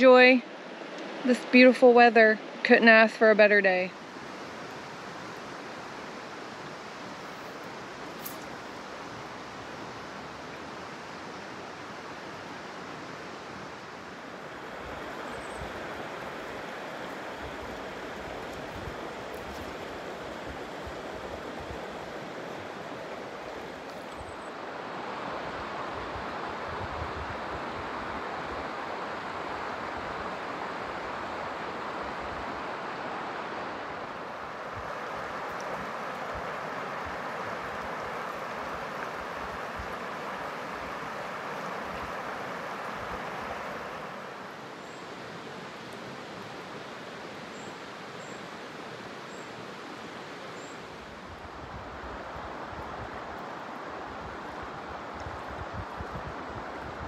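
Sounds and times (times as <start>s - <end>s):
creek flowing over stones: 3.9s - 26.6s, 27.4s - 57.0s.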